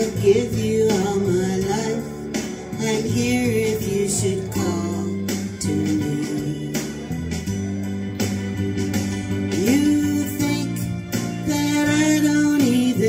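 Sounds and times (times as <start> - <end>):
backing track with guitar: 0.0 - 13.0
person singing karaoke: 0.0 - 13.0.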